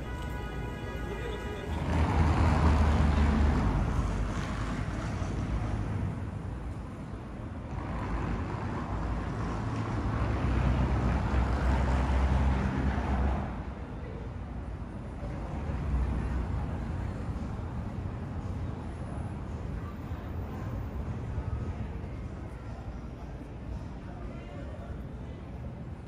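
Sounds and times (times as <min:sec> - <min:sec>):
city street noise: 0:00.0 - 0:26.0.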